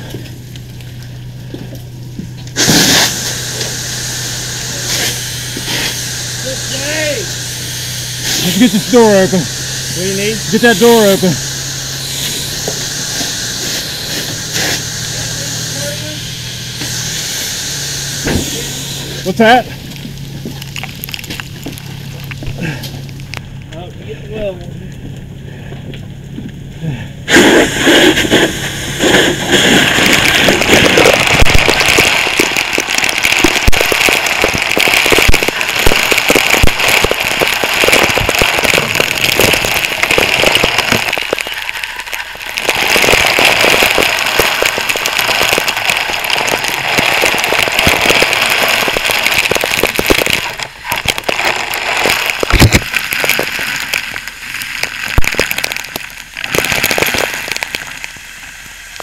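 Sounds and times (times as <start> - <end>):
fire hose water jetting: 0.0 - 25.7, 26.8 - 59.0
spattering crackle: 0.0 - 59.0.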